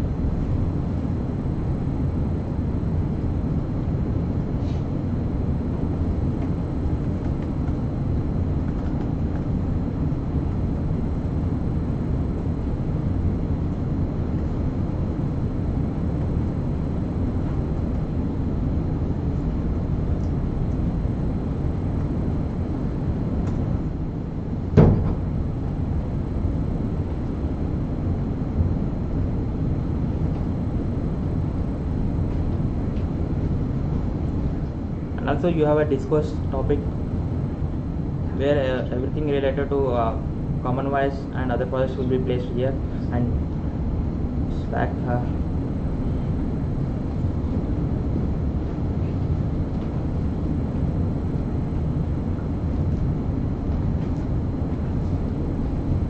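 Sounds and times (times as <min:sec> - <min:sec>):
low room noise: 0:00.0 - 0:56.0.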